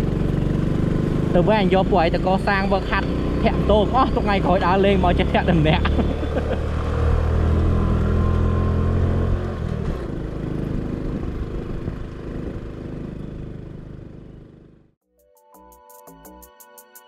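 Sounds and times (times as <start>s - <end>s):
road and wind noise: 0.0s - 14.8s
motorbike engines humming: 0.0s - 14.9s.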